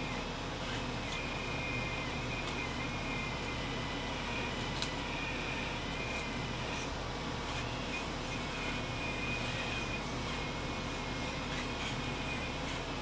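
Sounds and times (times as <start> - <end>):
hydraulic pump whine: 0.0 - 13.0.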